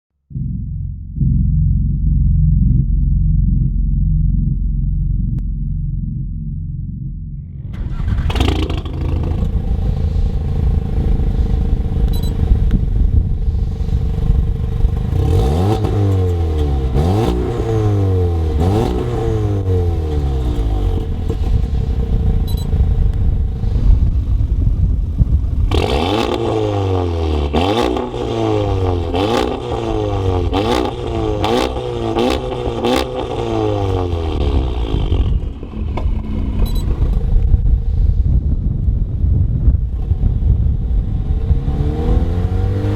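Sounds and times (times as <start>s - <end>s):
car engine idling and revving: 0.3s - 42.9s
exhaust cracks: 0.3s - 42.9s.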